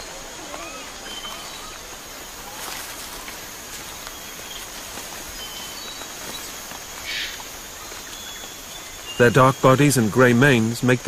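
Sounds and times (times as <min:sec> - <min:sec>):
bird chirps: 0:00.0 - 0:10.0
rustle: 0:00.0 - 0:11.0.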